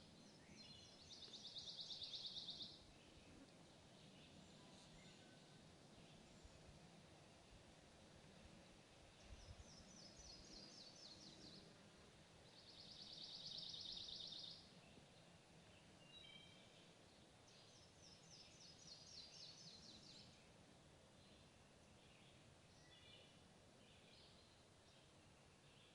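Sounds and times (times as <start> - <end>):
faint background hiss: 0.0 - 25.9.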